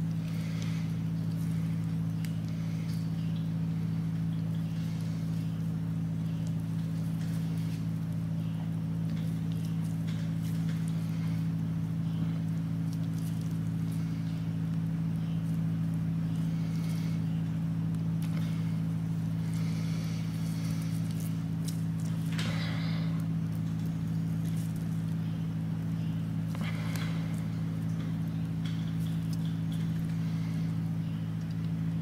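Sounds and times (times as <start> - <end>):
steady low tonal hum: 0.0 - 32.0.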